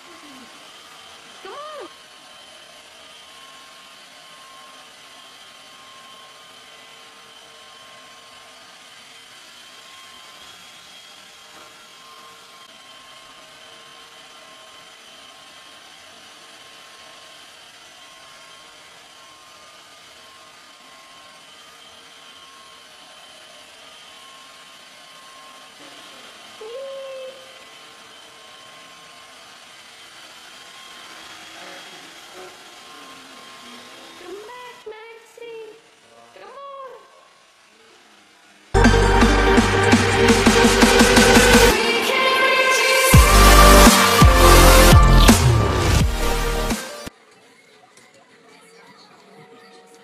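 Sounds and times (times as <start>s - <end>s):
small electric motor whirring: 0.0s - 47.2s.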